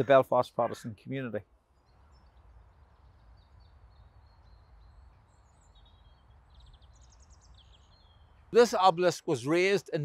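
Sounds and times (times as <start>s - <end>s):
faint songbird chirps: 0.0s - 10.0s.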